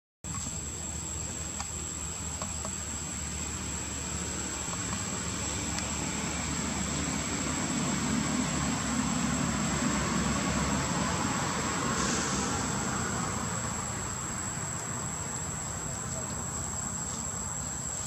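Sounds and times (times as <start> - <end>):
distant engine rumble: 0.3 - 18.0
high-pitched insect whine: 0.3 - 18.0.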